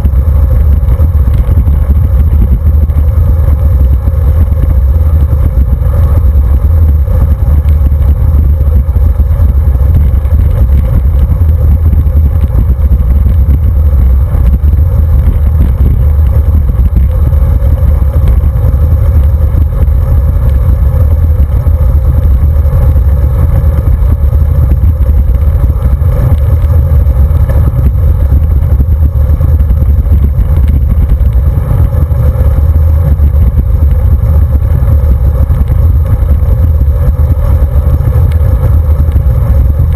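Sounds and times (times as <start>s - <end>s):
road vibration rumble: 0.0s - 39.9s
wind buffeting microphone: 0.0s - 39.9s.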